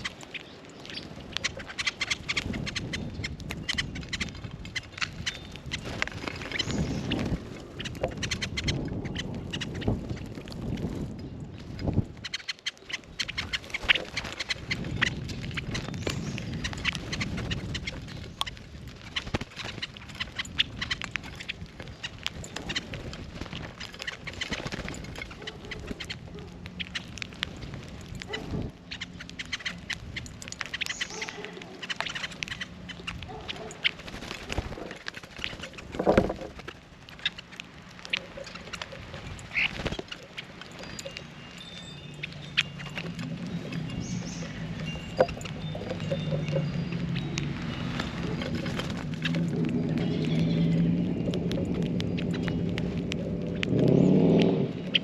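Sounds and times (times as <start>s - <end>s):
birds calling: 0.0s - 55.0s.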